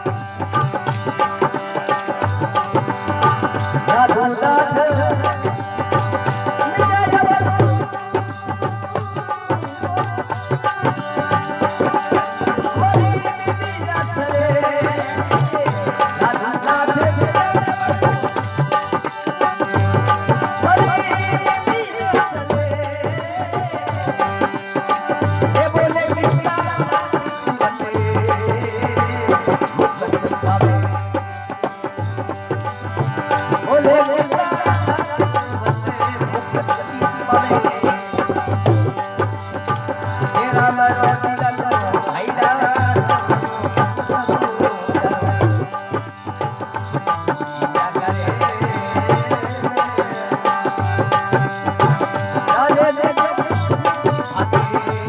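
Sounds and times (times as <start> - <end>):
hand drum rhythm: 0.0 - 55.0
winding melody line: 0.0 - 55.0.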